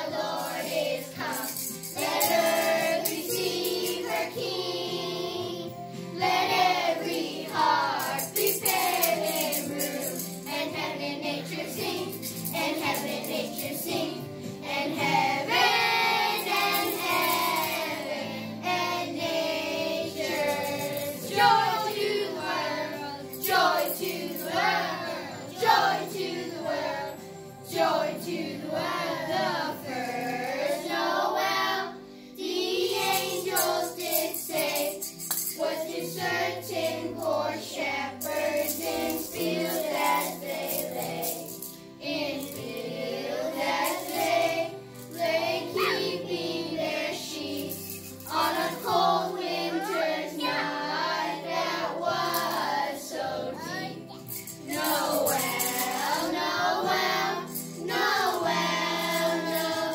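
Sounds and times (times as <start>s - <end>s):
children singing a carol: 0.0s - 59.9s
instrumental accompaniment: 0.0s - 59.9s.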